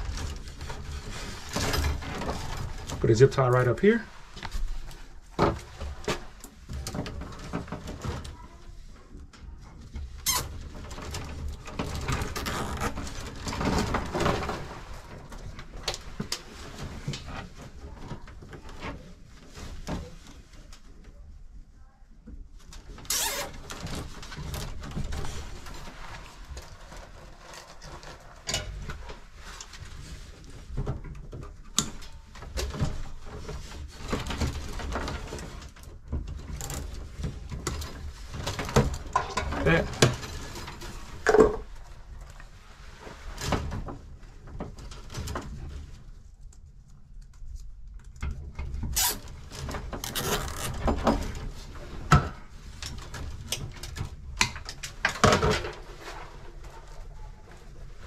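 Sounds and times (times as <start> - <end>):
wires rustling and knocking: 0.0 - 21.4, 22.2 - 58.0.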